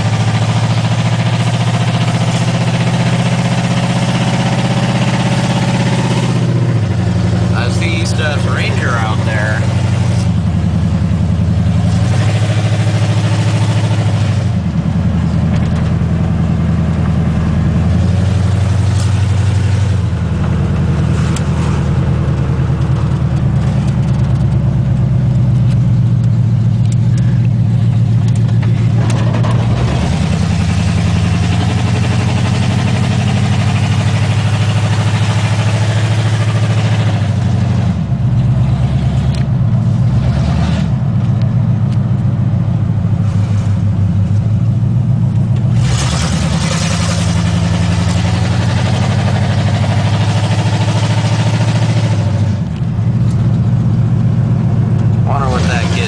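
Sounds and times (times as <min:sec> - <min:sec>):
loud truck engine revving: 0:00.0 - 0:56.0.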